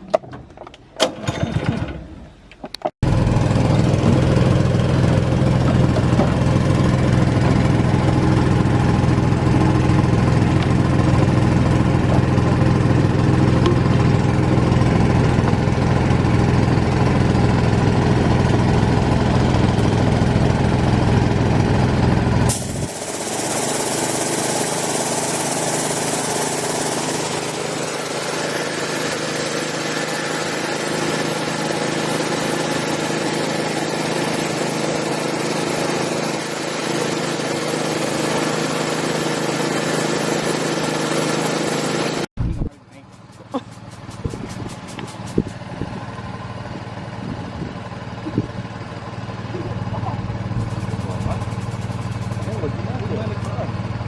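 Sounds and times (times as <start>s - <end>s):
engine running with deep hum: 3.0s - 54.0s.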